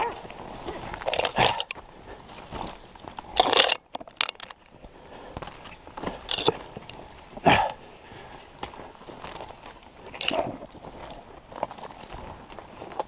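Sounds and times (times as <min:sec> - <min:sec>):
dry branches crunching and snapping: 0:00.0 - 0:13.0.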